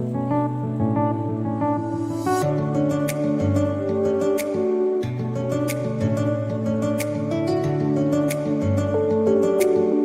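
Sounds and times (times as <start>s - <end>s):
instrumental song with steady beat: 0.0s - 10.0s.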